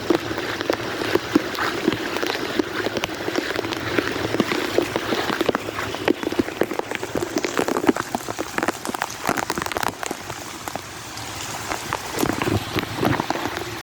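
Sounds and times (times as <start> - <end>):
heavy rain: 0.0 - 13.8.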